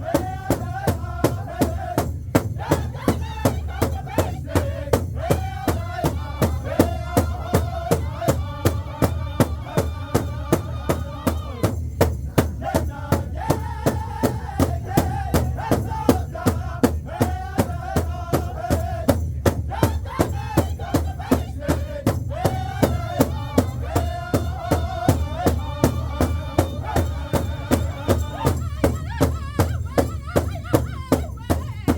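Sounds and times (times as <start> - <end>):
big drum beating: 0.0 - 31.9
group singing in high voices: 0.0 - 31.9.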